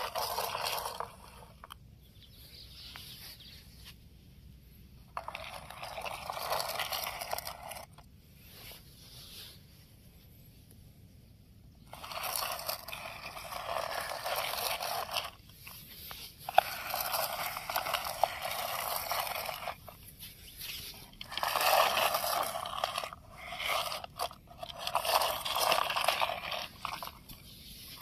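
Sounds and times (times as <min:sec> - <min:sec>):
toy train wheels grinding on sand: 0:00.0 - 0:03.4, 0:05.0 - 0:08.1, 0:11.8 - 0:28.0.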